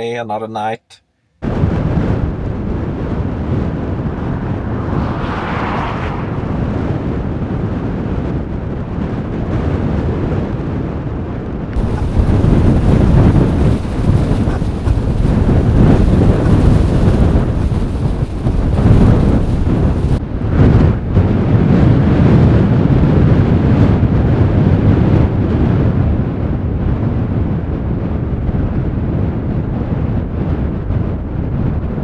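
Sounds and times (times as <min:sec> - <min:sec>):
wind buffeting microphone: 0:01.4 - 0:32.0.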